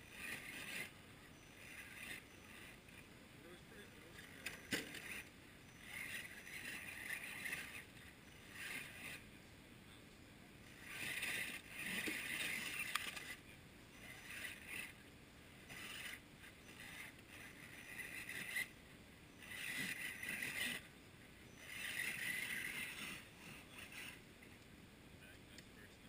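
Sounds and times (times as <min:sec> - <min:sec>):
small electric winch whirring: 0:00.0 - 0:03.1, 0:04.0 - 0:09.3, 0:10.6 - 0:15.0, 0:15.6 - 0:20.9, 0:21.5 - 0:24.6.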